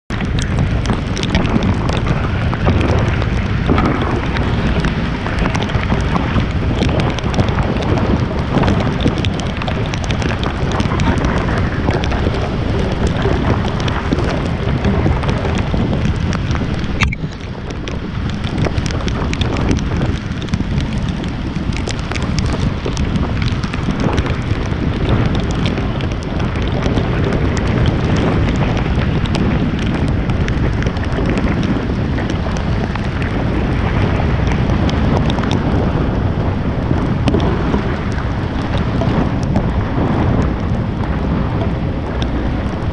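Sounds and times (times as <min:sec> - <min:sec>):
wind buffeting microphone: 0:00.1 - 0:42.9.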